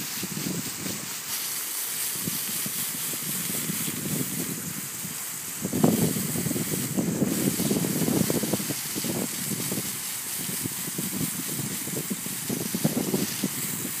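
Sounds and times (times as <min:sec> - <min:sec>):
blower air blast rushing: 0:00.0 - 0:14.0
sand crackling: 0:00.0 - 0:14.0.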